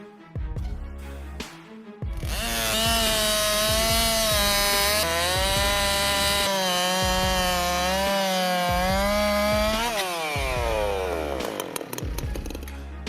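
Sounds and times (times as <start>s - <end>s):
chainsaw cutting wood: 2.2s - 12.8s.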